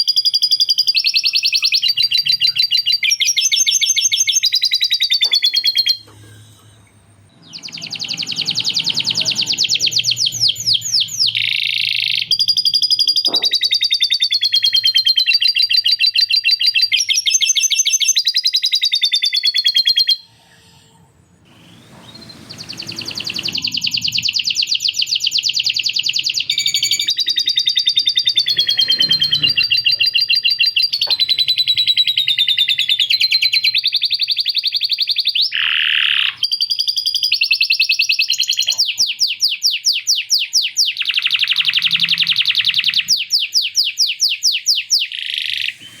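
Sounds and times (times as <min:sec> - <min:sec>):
canary singing trills: 0:00.0 - 0:20.8, 0:21.5 - 0:46.0.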